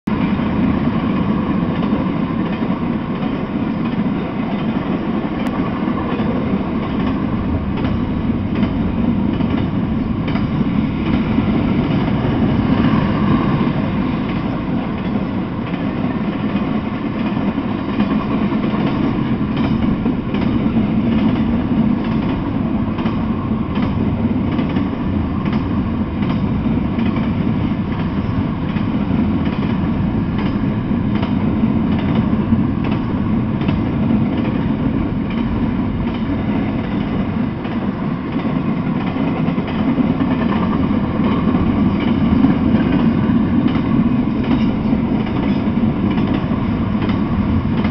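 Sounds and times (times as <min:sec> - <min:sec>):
freight train wheels rumbling on rail: 0:00.0 - 0:47.9.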